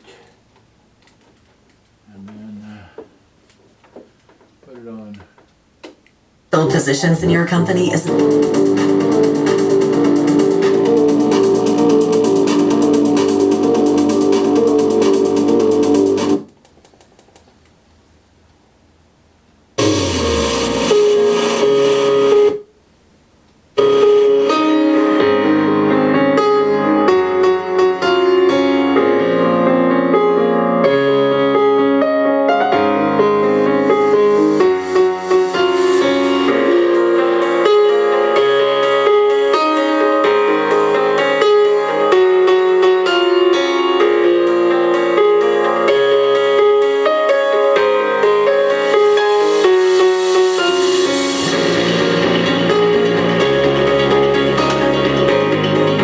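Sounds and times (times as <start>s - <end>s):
piano music from boombox speakers: 6.9s - 17.1s, 19.8s - 22.7s, 23.8s - 56.0s.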